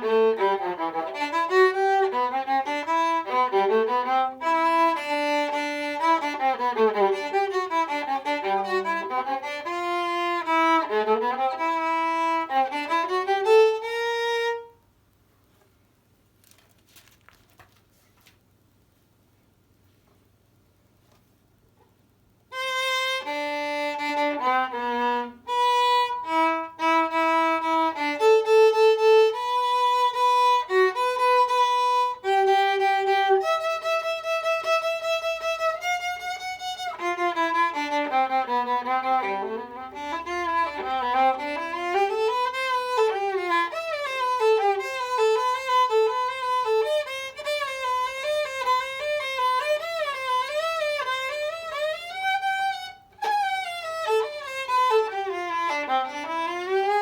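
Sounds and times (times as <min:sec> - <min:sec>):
solo violin playing: 0:00.0 - 0:14.8, 0:22.5 - 0:57.0.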